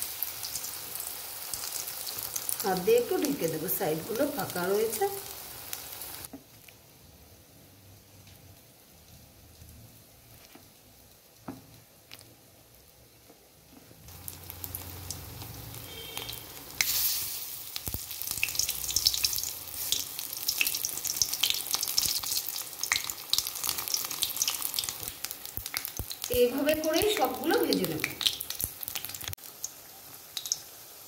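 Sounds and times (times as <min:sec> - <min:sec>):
hot oil sizzling and crackling: 0:00.0 - 0:31.0.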